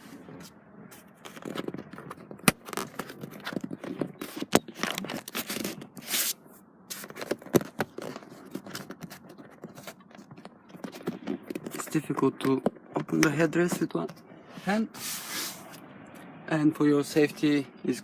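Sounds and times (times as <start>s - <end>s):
plastic and fabric scraping: 0.0s - 12.7s, 13.6s - 15.8s.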